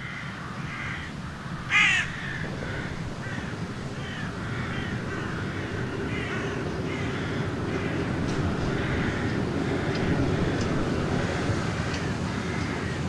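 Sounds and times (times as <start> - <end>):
birds giving harsh calls: 0.0 - 13.0
low steady rumble: 0.7 - 13.0.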